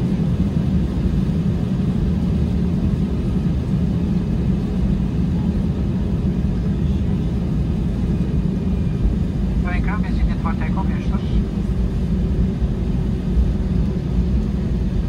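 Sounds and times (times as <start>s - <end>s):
airplane cabin low rumble: 0.0s - 15.0s.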